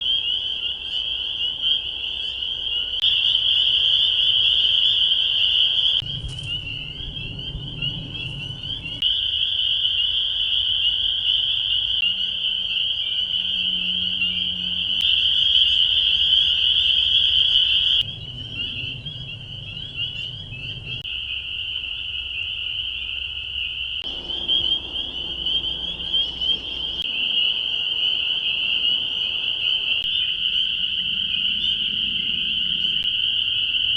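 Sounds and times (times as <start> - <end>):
chorus of spring peepers: 0.0 - 33.9.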